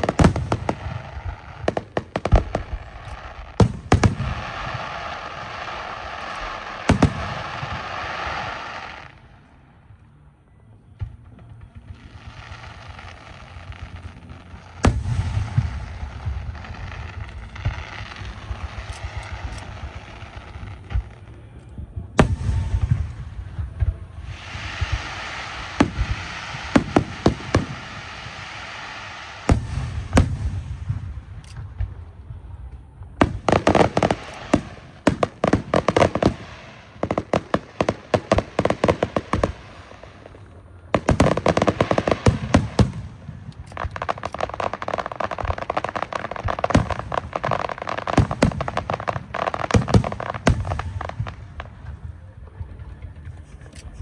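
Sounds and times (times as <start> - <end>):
fireworks crackling and popping: 0.0 - 54.0
low rumbling firework crackles: 0.0 - 54.0.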